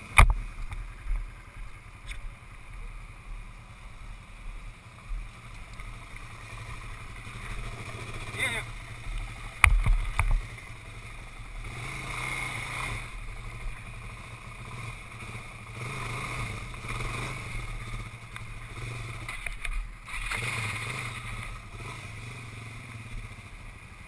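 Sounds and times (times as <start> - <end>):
quad engine idling: 0.0 - 24.0.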